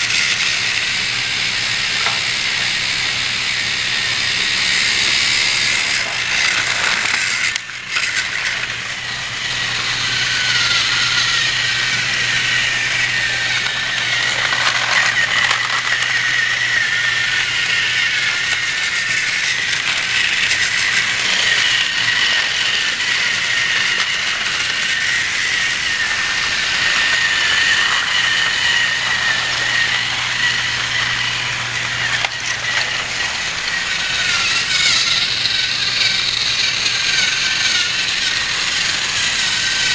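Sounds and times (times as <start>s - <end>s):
plastic wheels rattling on track: 0.0s - 39.9s
toy train motors whirring: 0.0s - 39.9s.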